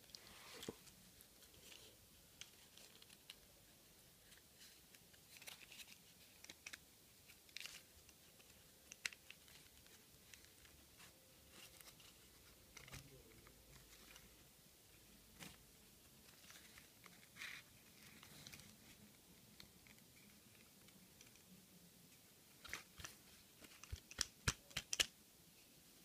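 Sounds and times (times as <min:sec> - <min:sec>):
rustling handling noises: 0:00.0 - 0:25.1.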